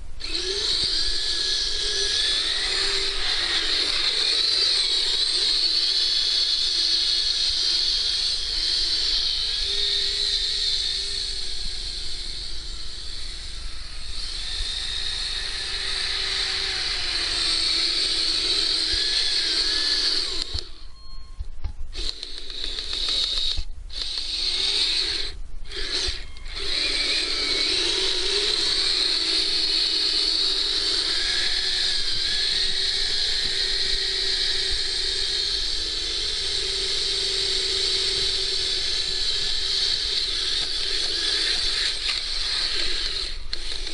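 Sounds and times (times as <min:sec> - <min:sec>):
electric motor and gearbox whining: 0:00.0 - 0:43.9.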